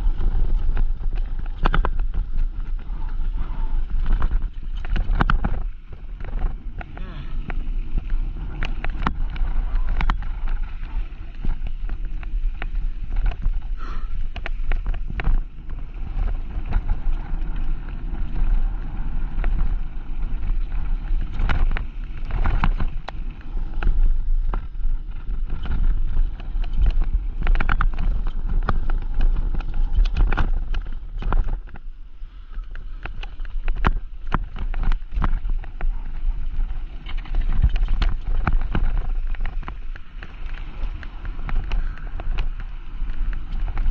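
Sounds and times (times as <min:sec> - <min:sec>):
bike rattling over bumps: 0:00.0 - 0:43.9
bike rushing and rumbling: 0:00.0 - 0:43.9.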